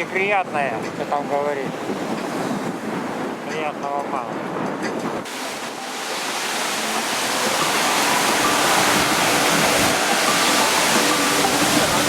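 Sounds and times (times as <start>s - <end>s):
rough sea breaking on shore: 0.0s - 12.0s
strong storm wind: 0.0s - 12.0s.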